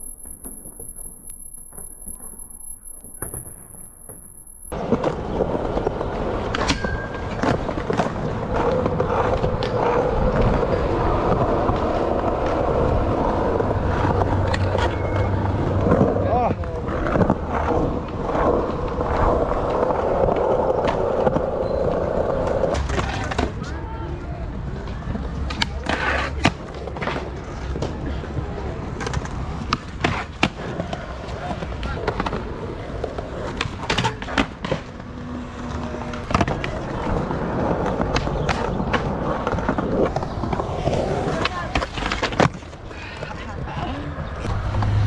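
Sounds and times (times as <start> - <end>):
skateboard clacking on ground: 0.0 - 44.9
skateboard wheels rolling on concrete: 0.0 - 45.0.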